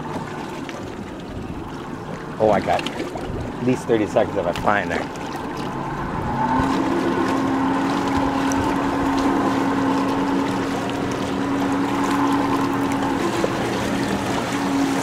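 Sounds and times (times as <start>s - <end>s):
motorboat engine humming: 0.0s - 15.0s
water noise: 0.0s - 15.0s
wind: 0.0s - 15.0s.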